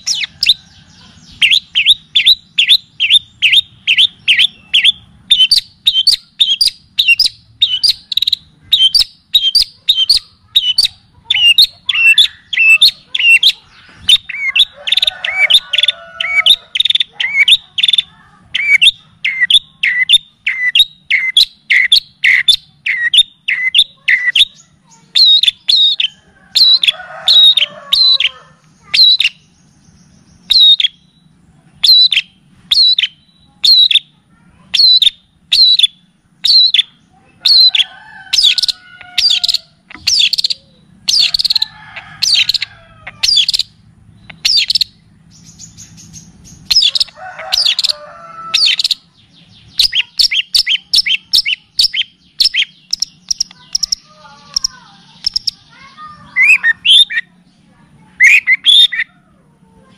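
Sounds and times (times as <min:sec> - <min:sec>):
soft low chattering song: 0:00.0 - 0:59.9
songbird chirping: 0:00.0 - 0:59.9.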